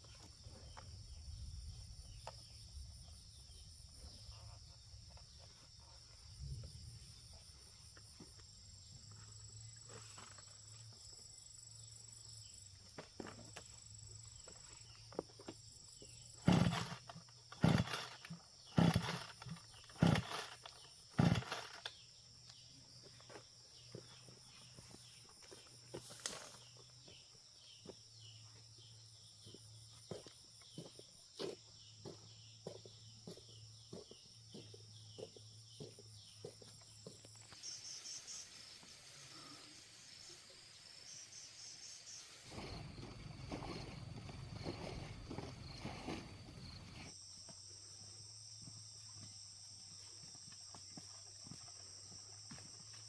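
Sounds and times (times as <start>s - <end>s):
high insect drone: 0.0s - 53.0s.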